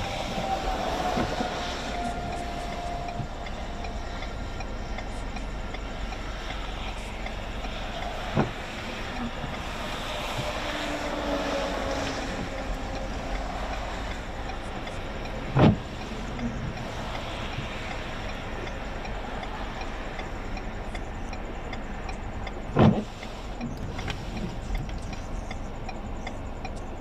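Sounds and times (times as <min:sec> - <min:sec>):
road and engine noise inside vehicle: 0:00.0 - 0:27.0.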